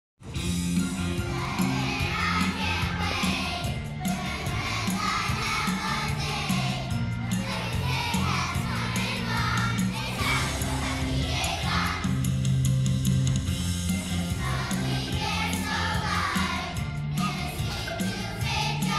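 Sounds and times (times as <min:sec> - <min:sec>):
instrumental accompaniment with bass: 0:00.2 - 0:18.9
children's choir singing: 0:01.1 - 0:12.4, 0:14.0 - 0:18.9.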